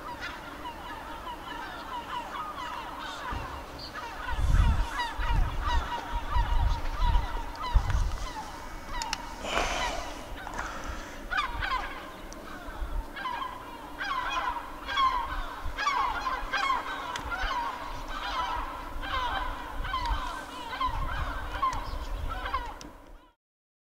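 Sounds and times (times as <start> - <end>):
birds calling: 0.0 - 23.4.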